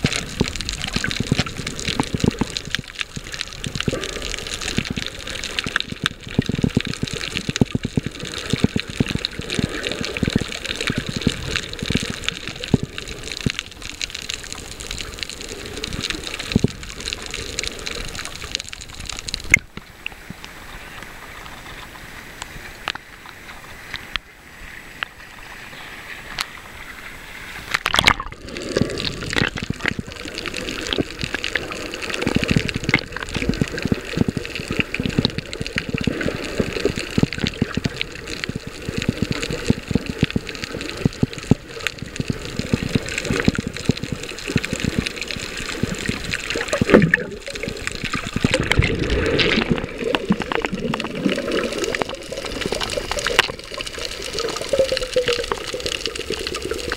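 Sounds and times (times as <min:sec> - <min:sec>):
muffled underwater water sloshing: 0:00.0 - 0:56.9.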